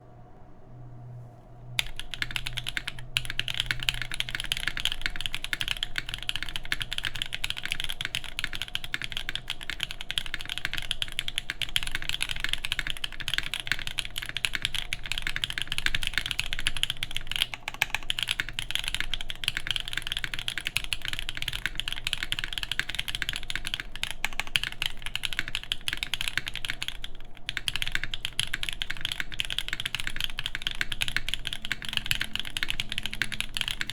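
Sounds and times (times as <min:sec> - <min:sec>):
mechanical keyboard typing: 0:01.8 - 0:33.9.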